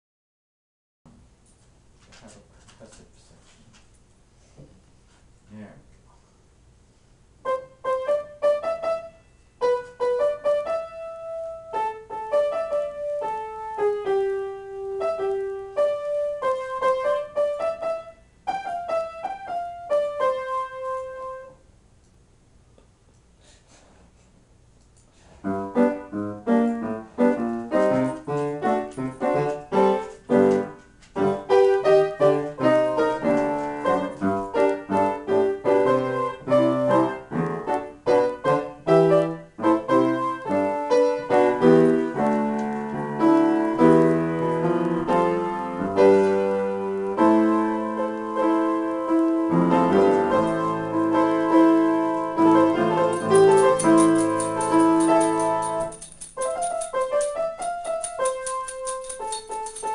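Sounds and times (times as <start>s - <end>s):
upright piano improvising: 7.4s - 21.6s, 25.4s - 59.9s.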